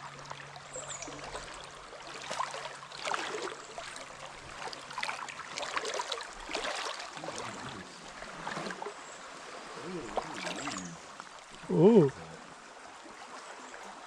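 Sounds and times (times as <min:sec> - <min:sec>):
river water flowing: 0:00.0 - 0:14.0
small water splashes: 0:00.0 - 0:14.0.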